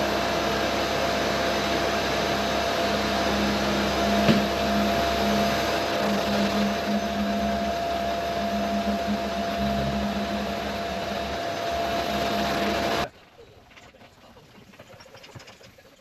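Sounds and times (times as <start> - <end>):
dust extractor whining: 0.0 - 13.1.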